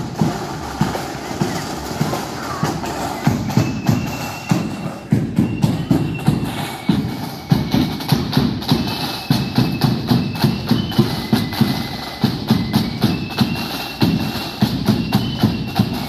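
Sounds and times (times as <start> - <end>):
marching band playing: 0.0 - 16.0
steady drum beat: 0.0 - 16.0.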